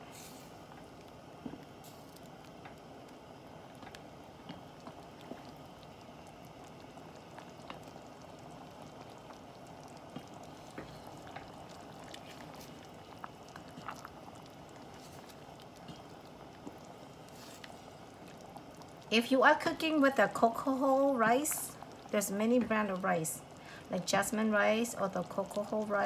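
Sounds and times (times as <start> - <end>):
rice bubbling in saucepan: 0.0 - 26.0.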